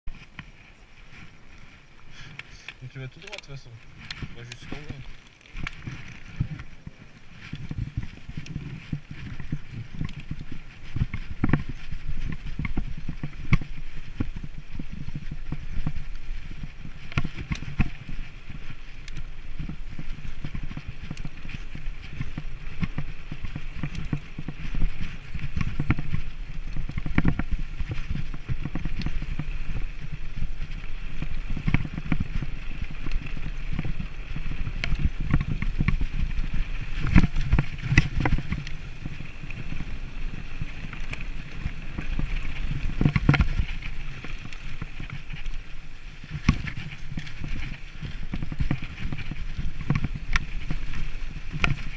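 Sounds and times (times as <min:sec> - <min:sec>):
bike tyres rumbling on dirt: 0:00.1 - 0:51.9
bike knocks and rattles: 0:04.0 - 0:51.9.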